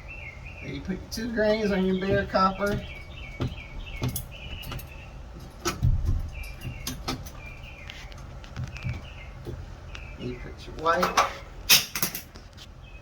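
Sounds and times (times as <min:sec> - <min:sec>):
bird chirping: 0:00.0 - 0:11.7, 0:12.7 - 0:13.0.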